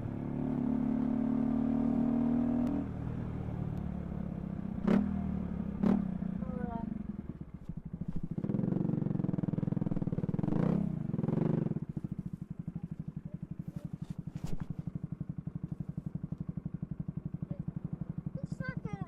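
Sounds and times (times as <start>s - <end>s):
motorcycle engine idling: 2.8s - 19.0s.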